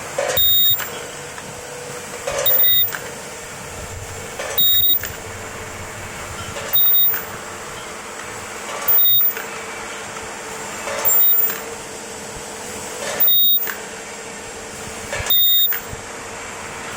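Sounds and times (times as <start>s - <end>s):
high-pitched welding whine: 0.0s - 16.9s
machine running noise: 0.0s - 16.9s.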